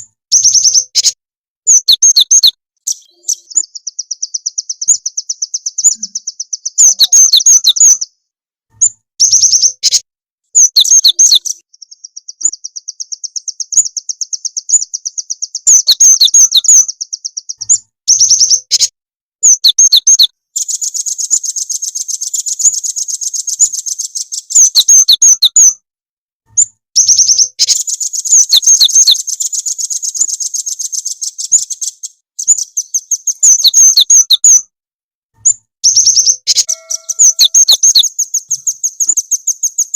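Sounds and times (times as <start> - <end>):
fast high-pitched bird trills: 0.0 - 8.1, 8.8 - 25.8, 26.6 - 34.7, 35.4 - 39.9
loud sharp bird chirps: 0.0 - 25.8, 26.5 - 34.7, 35.4 - 39.9.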